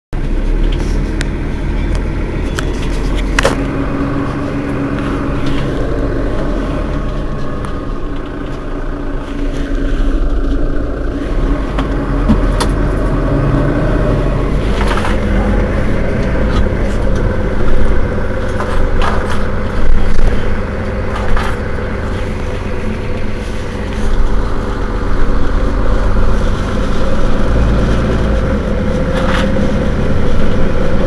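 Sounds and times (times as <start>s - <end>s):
bus diesel engine running: 0.1s - 31.0s.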